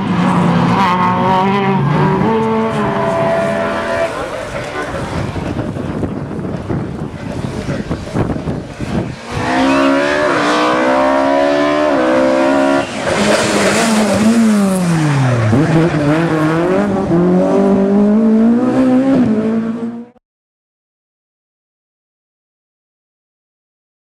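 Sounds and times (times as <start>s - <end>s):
rally car engine at full throttle: 0.0s - 20.2s.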